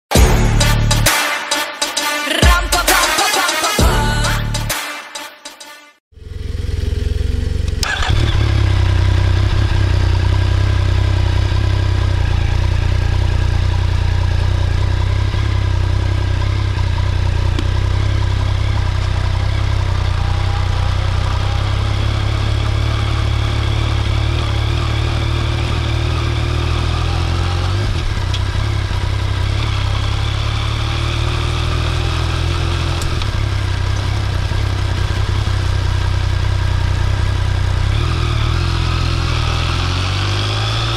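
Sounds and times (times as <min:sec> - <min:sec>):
motorcycle engine running: 0:06.1 - 0:40.9.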